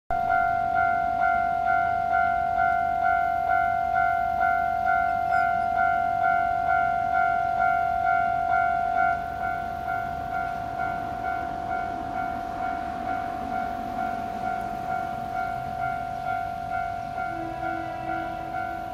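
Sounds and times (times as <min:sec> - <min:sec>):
level crossing warning bell: 0:00.1 - 0:18.9.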